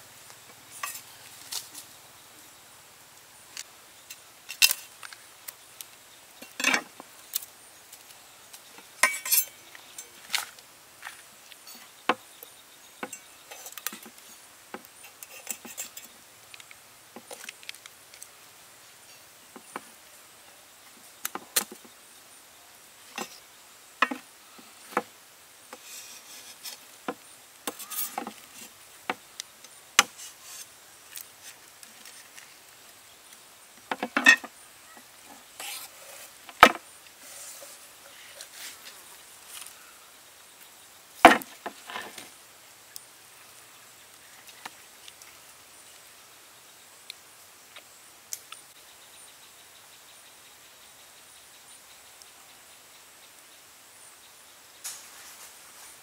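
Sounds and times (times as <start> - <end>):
faint high insect drone: 0.0 - 56.0.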